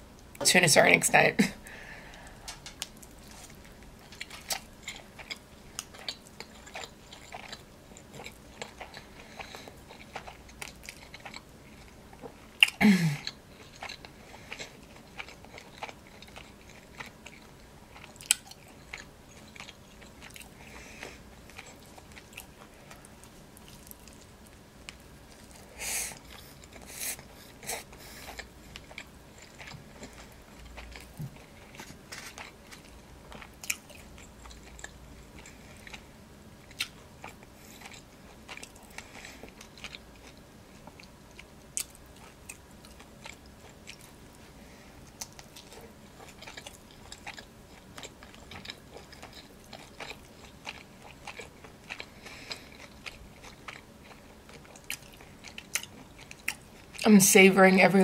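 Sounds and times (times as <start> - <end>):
chewing and biting food: 2.5 - 57.0.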